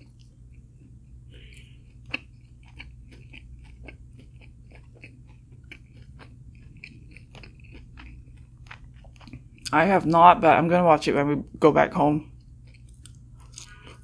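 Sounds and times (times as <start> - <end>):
close-up chewing of food: 0.0 - 9.7, 12.3 - 14.0.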